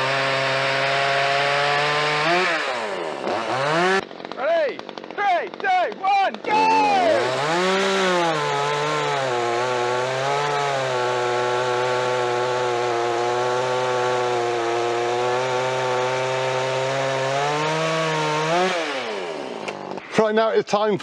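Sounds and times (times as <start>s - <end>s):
chainsaw cutting log: 0.0s - 20.3s.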